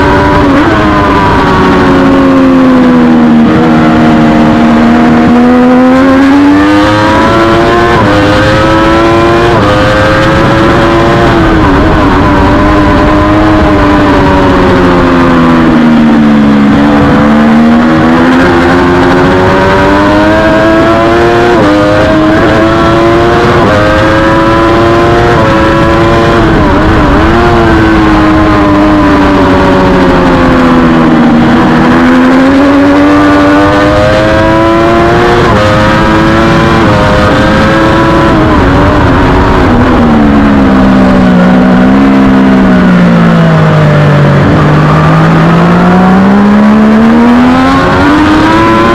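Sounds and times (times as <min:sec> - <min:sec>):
motorcycle engine revving through gears: 0:00.0 - 0:48.9
wind rush: 0:00.0 - 0:48.9.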